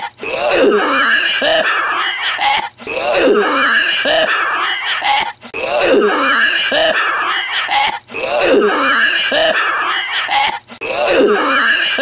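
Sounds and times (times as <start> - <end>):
man coughing harshly: 0.8 - 2.8, 3.4 - 12.0.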